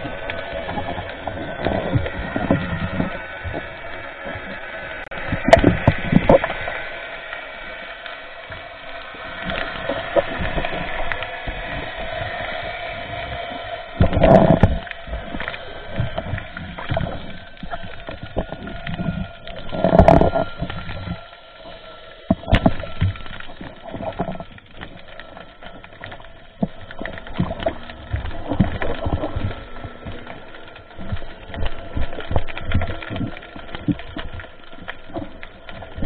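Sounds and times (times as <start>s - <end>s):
water rushing and gurgling: 0.0s - 36.0s.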